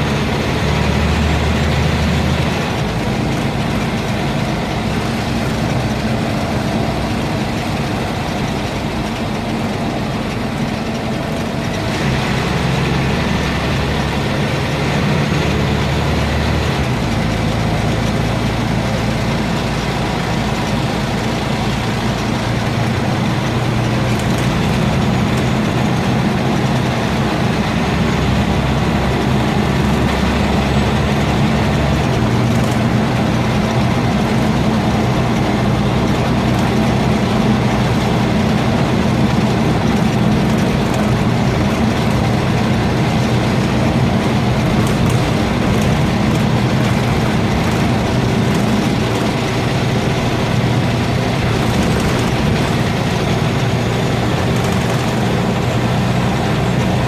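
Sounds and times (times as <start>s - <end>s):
bus diesel engine droning: 0.0s - 57.0s.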